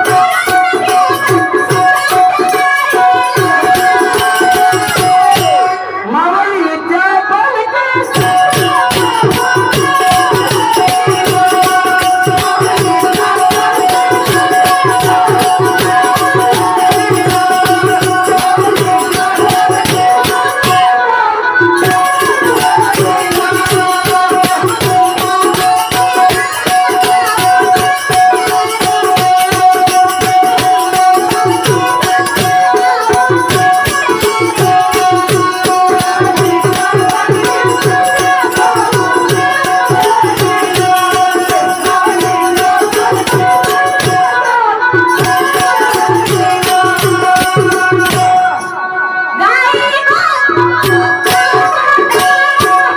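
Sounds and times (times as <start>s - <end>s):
rattling percussion and drumming: 0.0s - 6.0s, 8.0s - 52.9s.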